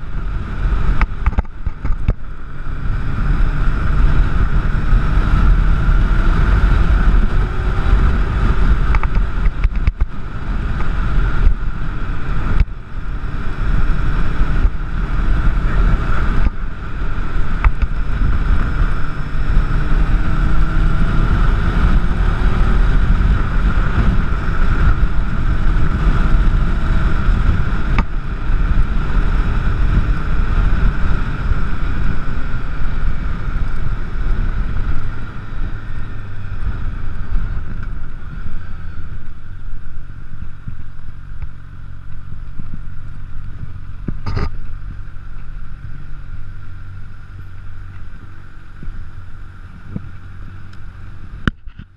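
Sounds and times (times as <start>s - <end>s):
motorcycle engine: 0.0s - 51.9s
wind rumbling on microphone: 0.0s - 51.9s.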